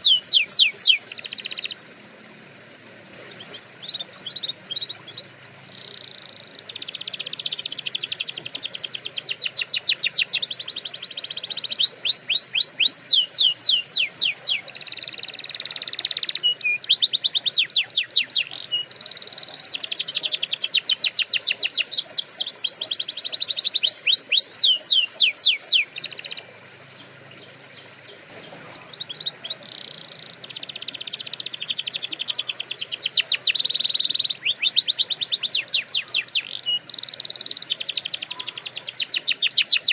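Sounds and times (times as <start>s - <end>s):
canary singing: 0.0s - 2.2s, 3.3s - 39.9s.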